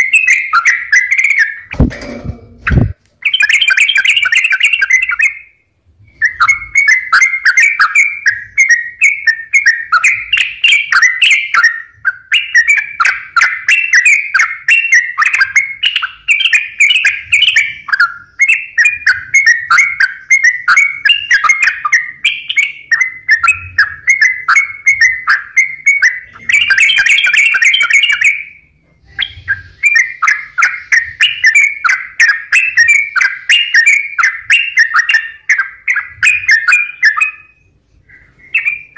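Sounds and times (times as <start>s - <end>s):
bird singing bubbling phrases: 2.5s - 38.9s.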